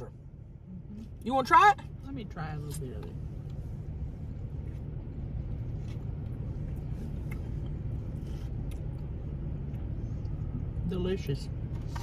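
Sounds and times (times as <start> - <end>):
car cabin engine hum: 0.0 - 12.0.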